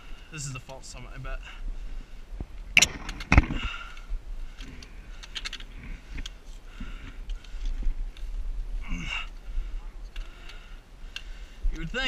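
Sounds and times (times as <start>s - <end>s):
rustling of branches: 0.0s - 12.0s.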